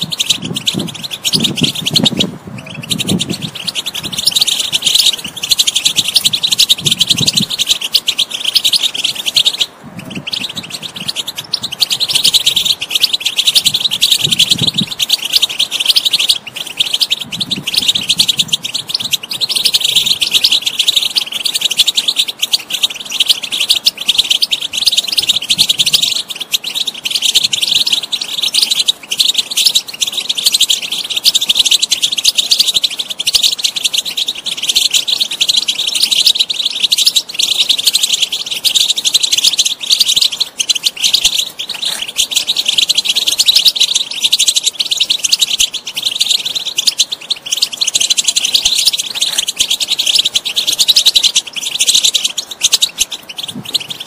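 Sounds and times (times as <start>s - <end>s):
finch twittering song: 0.0s - 54.0s.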